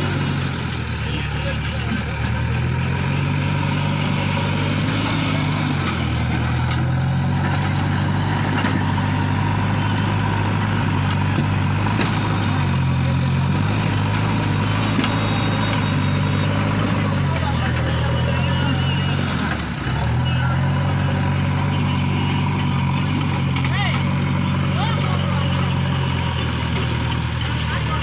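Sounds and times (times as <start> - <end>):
backhoe diesel engine running: 0.0 - 28.0.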